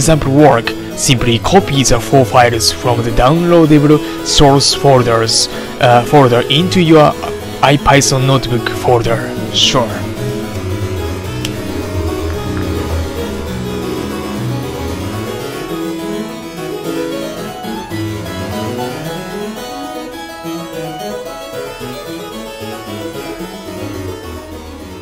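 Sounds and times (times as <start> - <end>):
keyboard playing quick runs: 0.0 - 25.0.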